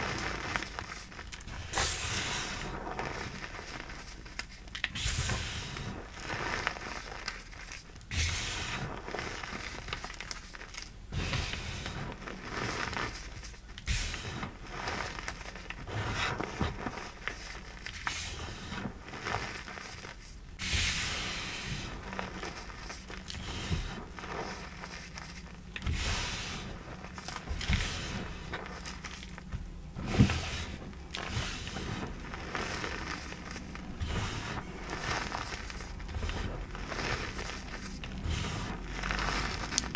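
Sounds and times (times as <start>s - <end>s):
chalk crunching in hands: 0.0s - 39.9s.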